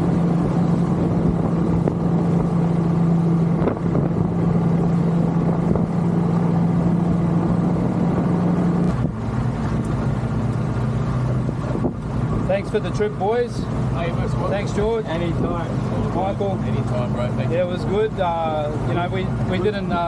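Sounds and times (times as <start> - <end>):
motorboat engine running: 0.0 - 20.0
rushing water: 0.0 - 20.0
rushing wind: 0.0 - 20.0.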